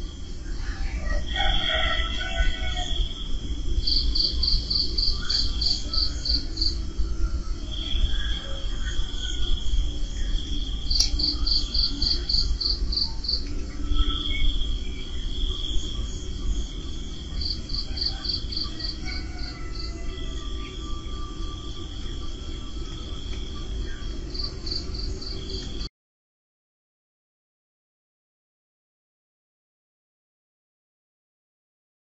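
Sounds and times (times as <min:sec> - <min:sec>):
insect high trill: 0:00.0 - 0:25.8
insects chirping: 0:00.0 - 0:25.9
low rumbling noise: 0:00.0 - 0:25.9.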